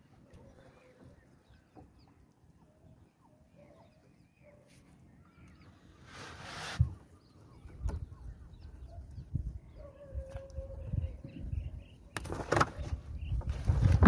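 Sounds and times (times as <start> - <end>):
faint bird calls: 0.0 - 13.4.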